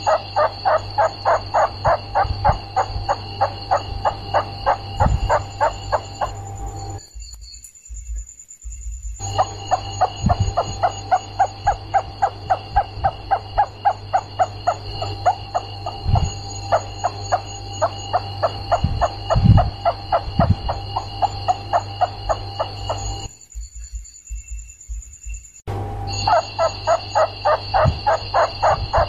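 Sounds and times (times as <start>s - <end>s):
rats squeaking: 0.0s - 7.0s, 9.2s - 23.9s, 26.2s - 29.0s
low hum: 0.0s - 29.0s
steady high whine: 0.0s - 29.0s.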